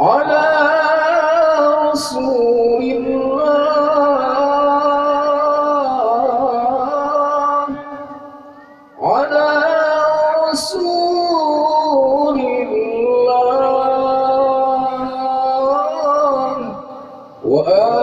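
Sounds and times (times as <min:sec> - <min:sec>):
solo voice chanting: 0:00.0 - 0:18.0.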